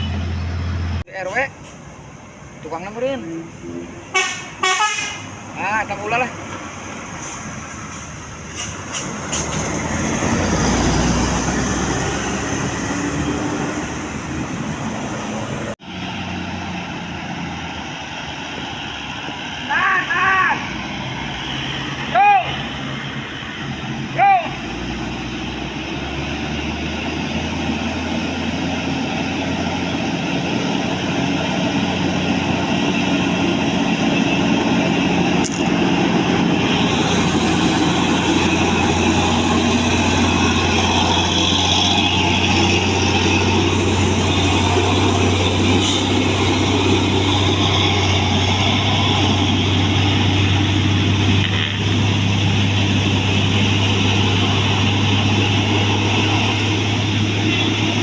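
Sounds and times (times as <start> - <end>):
bus engine drone: 0.0 - 58.0
road noise: 0.0 - 58.0.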